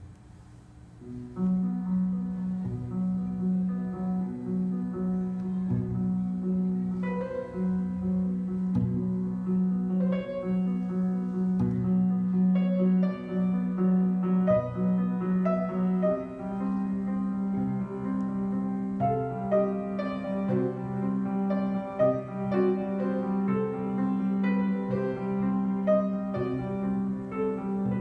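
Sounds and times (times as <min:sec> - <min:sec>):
slow moody piano piece: 0:00.0 - 0:28.0.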